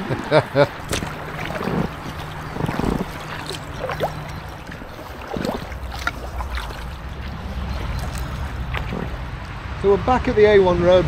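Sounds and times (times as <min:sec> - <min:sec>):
kayak paddle splashing in water: 0:00.0 - 0:09.5
distant road traffic rumble: 0:00.0 - 0:11.0.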